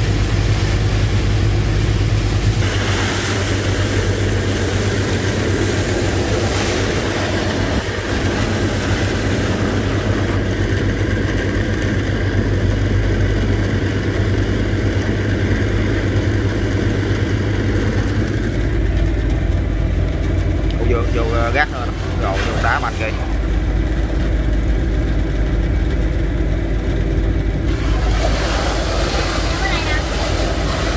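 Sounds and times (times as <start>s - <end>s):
engine running under load: 0.0s - 30.9s
sand pump rushing: 0.0s - 30.9s.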